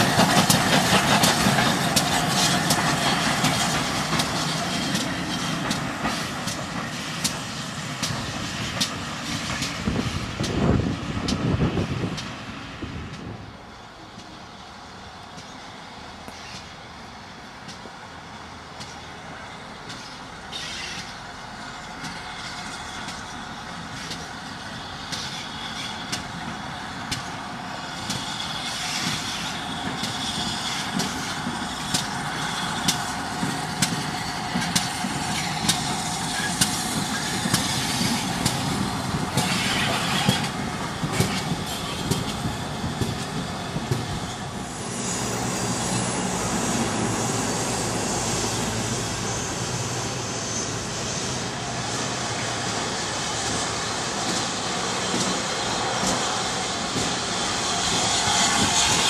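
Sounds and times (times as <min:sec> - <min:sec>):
sharp steam exhaust beats: 0:00.0 - 0:13.1, 0:18.4 - 0:59.0
steam locomotive rumbling past: 0:00.0 - 0:59.0.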